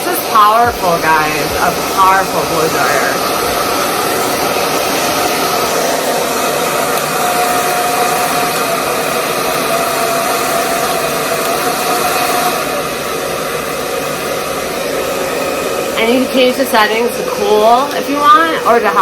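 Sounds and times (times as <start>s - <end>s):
faint motor whine: 0.0s - 19.0s
hair dryer blowing air: 0.0s - 19.0s.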